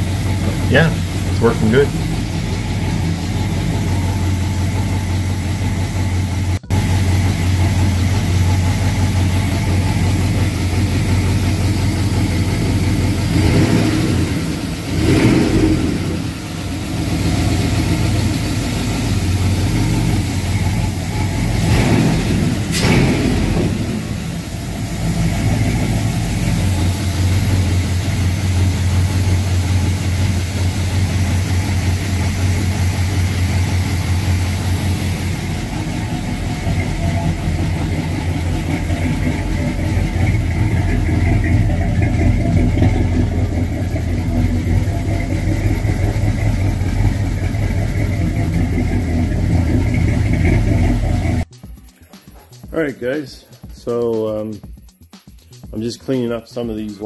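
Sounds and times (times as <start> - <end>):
car engine idling: 0.0 - 54.6.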